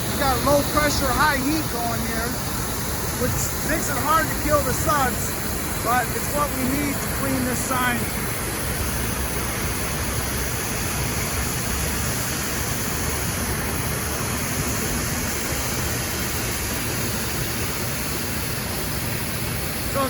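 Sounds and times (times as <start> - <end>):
pressure washer spray hiss: 0.0 - 20.0.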